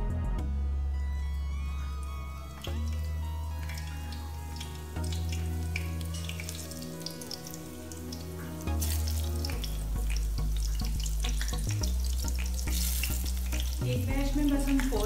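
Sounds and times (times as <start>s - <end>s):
background music low notes: 0.0s - 15.0s
spring rolls sizzling in oil: 1.9s - 15.0s.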